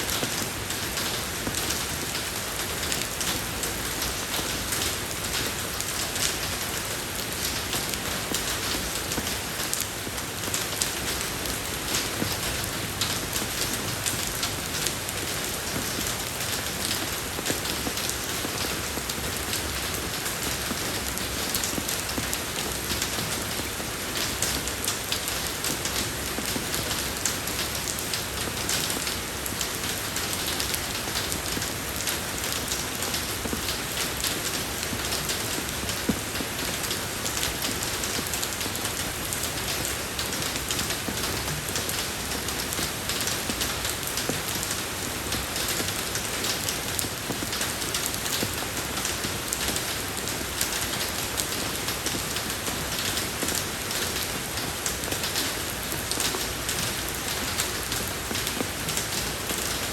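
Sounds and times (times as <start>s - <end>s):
rain falling on a road: 0.0s - 59.9s.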